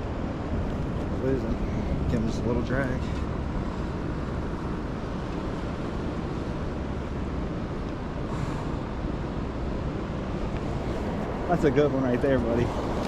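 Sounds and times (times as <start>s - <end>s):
fast river water rushing: 0.2s - 13.0s.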